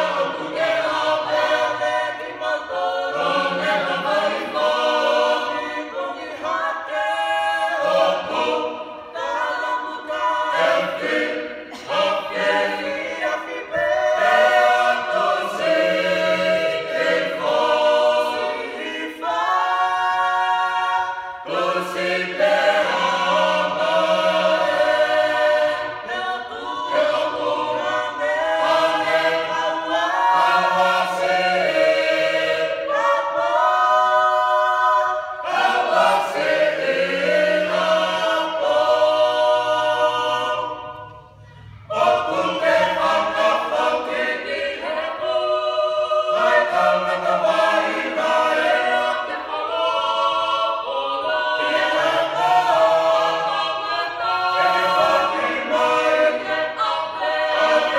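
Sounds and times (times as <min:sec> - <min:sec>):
choir singing a cappella: 0:00.0 - 0:57.9.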